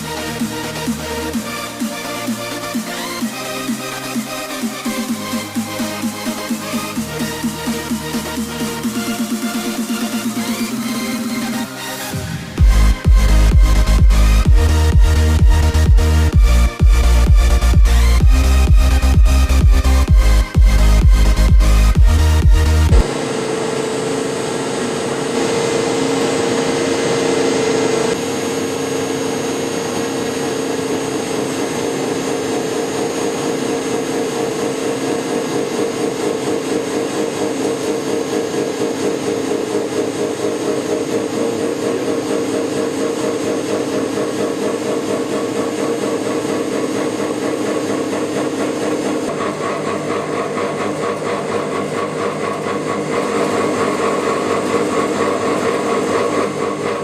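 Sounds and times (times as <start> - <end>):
industrial machinery running: 0.0 - 57.0.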